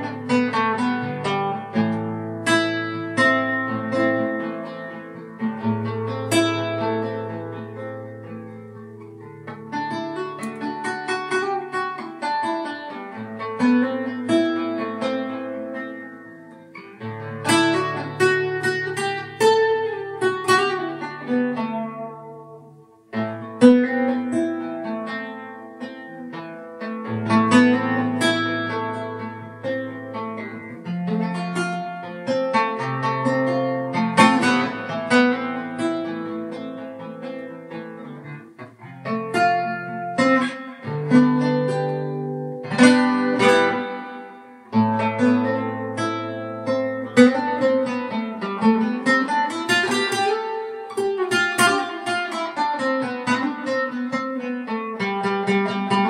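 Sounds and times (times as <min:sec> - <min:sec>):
solo guitar melody: 0:00.0 - 0:56.0.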